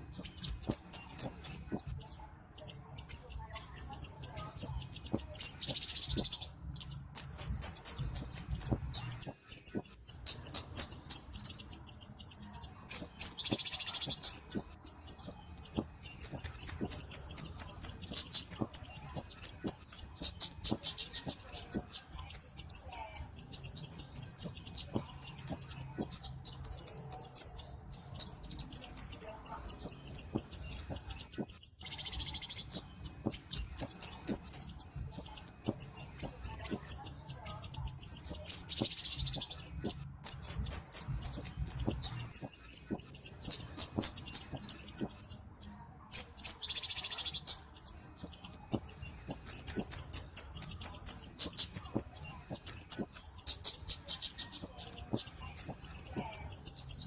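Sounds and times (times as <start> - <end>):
bird singing high thin chirps: 0.0 - 57.0.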